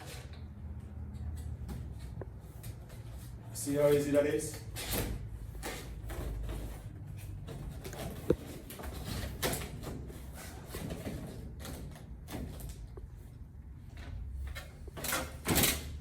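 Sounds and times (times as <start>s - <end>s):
ceiling tiles rustling and scraping: 0.0s - 16.0s.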